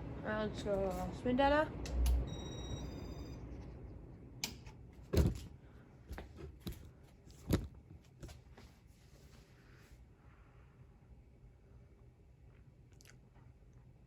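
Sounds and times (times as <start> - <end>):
ceiling fan air noise: 0.0 - 14.0.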